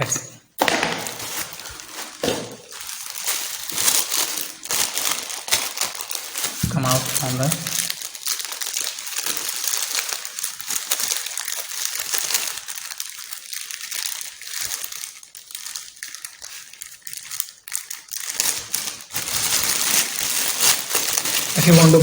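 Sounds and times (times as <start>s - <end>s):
plastic packaging crinkling: 0.0s - 22.0s.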